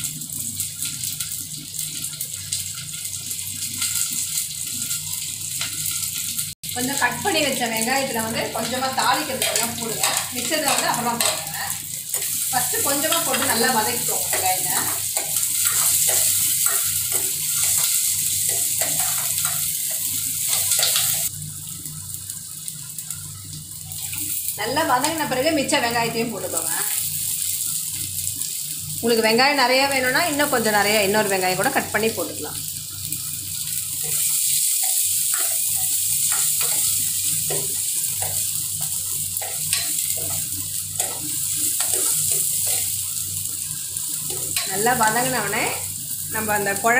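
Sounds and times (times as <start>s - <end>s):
onions sizzling in hot oil: 0.0s - 46.9s.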